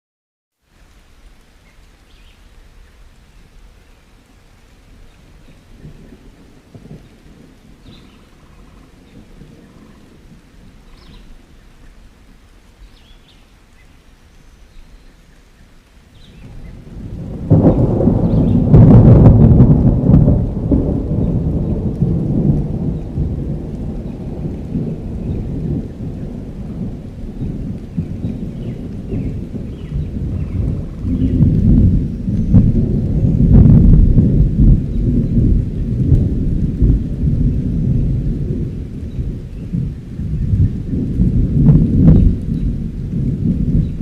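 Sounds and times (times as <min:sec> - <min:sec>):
thunder rumbling: 0:04.8 - 0:12.9, 0:16.1 - 0:44.0.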